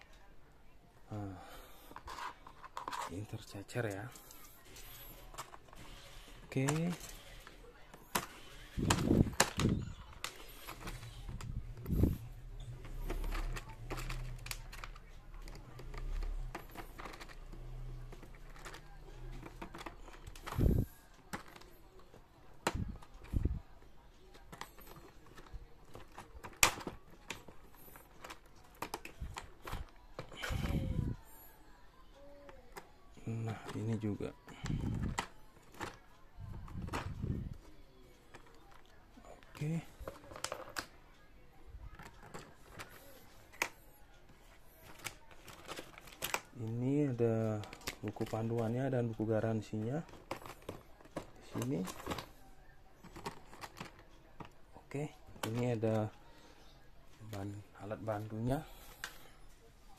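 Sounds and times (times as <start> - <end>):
plastic and metal accessories clicking: 1.9 - 31.2, 32.4 - 41.2, 41.9 - 52.4, 53.0 - 56.2.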